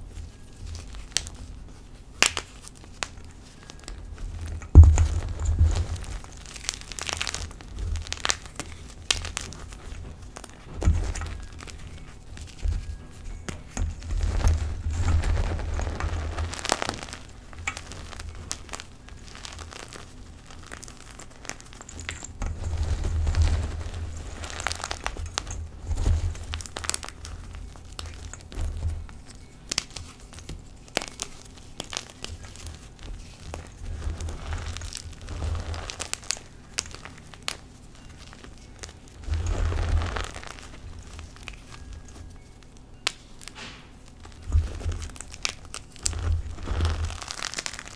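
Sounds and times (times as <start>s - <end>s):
chalk crunching and crumbling: 0.0s - 47.9s.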